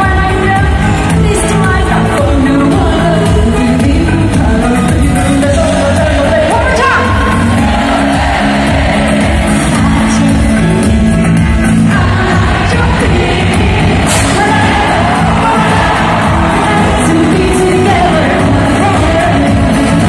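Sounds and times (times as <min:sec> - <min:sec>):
woman singing: 0:00.0 - 0:07.6, 0:09.2 - 0:20.0
live pop band playing: 0:00.0 - 0:20.0.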